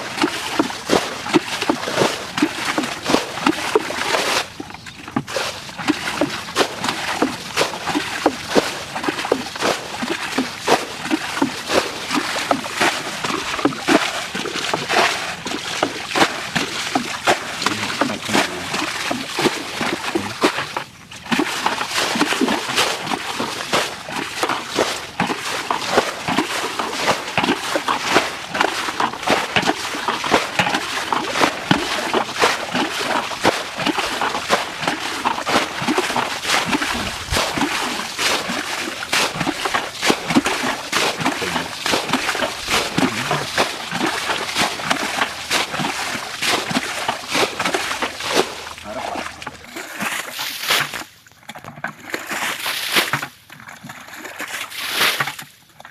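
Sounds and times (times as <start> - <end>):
water splashing and sloshing: 0.0 - 55.9.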